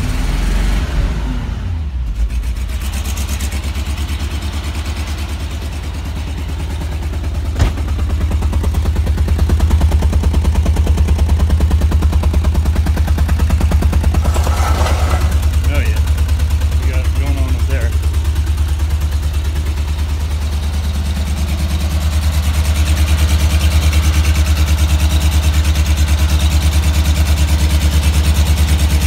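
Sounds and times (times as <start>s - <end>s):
car engine idling: 2.0s - 29.0s.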